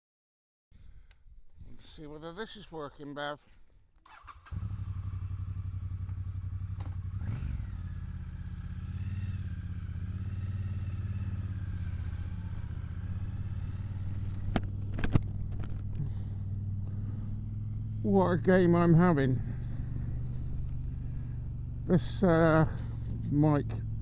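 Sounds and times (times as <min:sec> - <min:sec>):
motorcycle engine running: 0:04.1 - 0:24.0.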